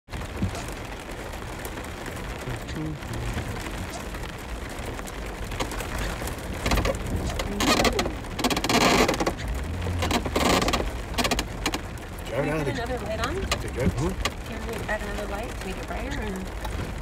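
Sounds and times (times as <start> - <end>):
low vehicle rumble: 0.1 - 17.0
rain: 0.1 - 17.0
rushing surges of noise: 0.1 - 17.0
tyres on wet gravel: 0.1 - 17.0.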